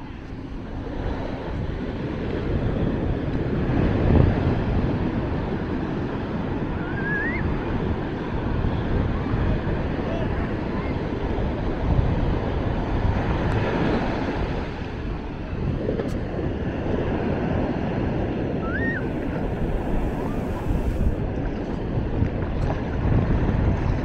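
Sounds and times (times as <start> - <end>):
ocean surf on beach: 0.0 - 24.0
wind on microphone: 0.0 - 24.0.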